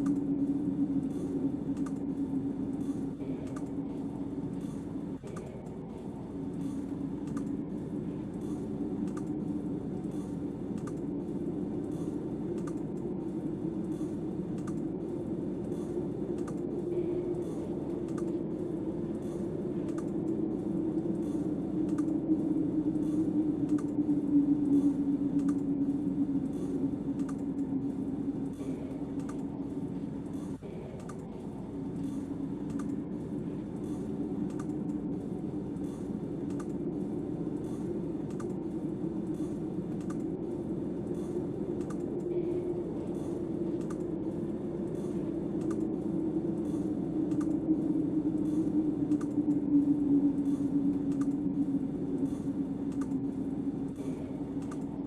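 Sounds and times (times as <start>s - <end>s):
light regular clicks: 0.0s - 3.9s, 4.5s - 5.8s, 6.4s - 7.6s, 8.2s - 11.2s, 11.8s - 13.1s, 13.8s - 15.0s, 15.6s - 18.5s, 19.1s - 44.2s, 44.8s - 55.0s
wind howling: 0.0s - 55.0s.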